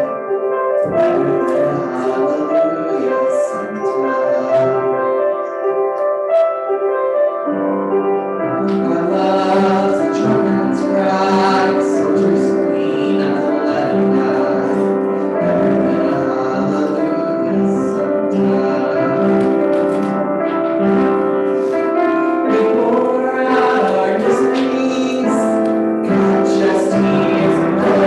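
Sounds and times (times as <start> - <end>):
sustained instrumental chords: 0.0 - 28.0
worship song with singing: 0.8 - 5.2, 8.4 - 28.0.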